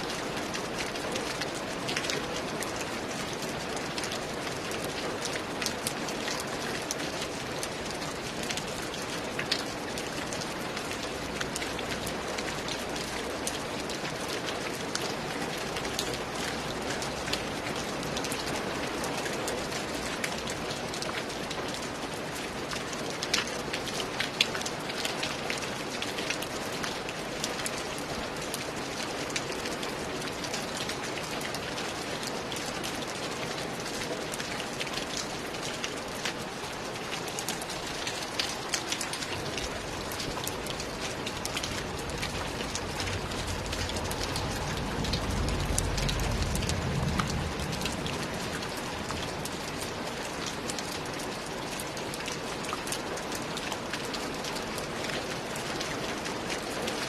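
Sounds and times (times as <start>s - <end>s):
rain drops ticking on hard surface: 0.0s - 57.0s.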